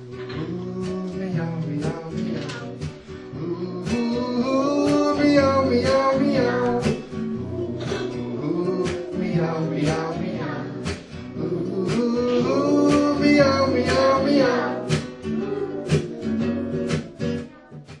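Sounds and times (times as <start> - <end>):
music with steady beat: 0.0 - 18.0.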